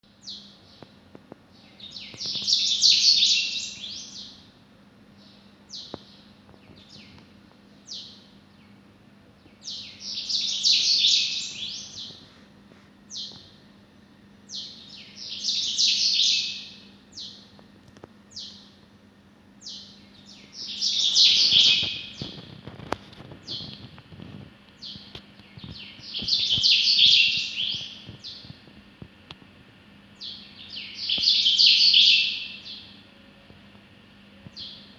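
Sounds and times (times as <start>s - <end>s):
small birds chirping: 0.0s - 12.4s, 13.0s - 13.7s, 14.4s - 34.9s.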